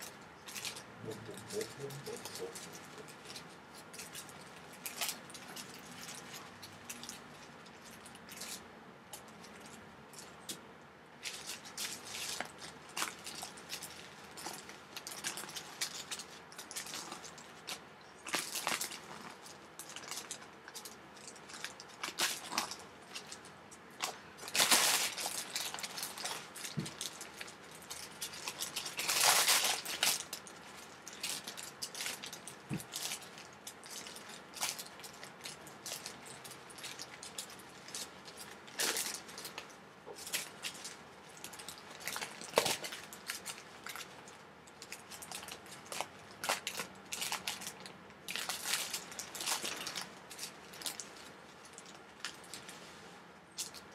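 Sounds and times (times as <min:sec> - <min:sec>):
plastic bags crinkling: 0:00.0 - 0:08.6, 0:11.2 - 0:52.8.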